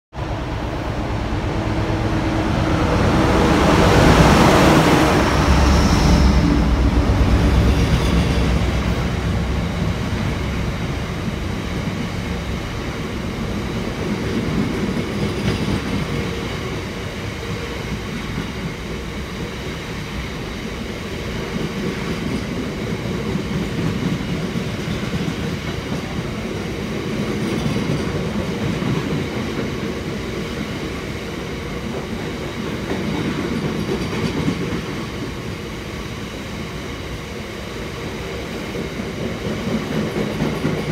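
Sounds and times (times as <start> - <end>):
diesel locomotive passing: 0.1 - 40.9.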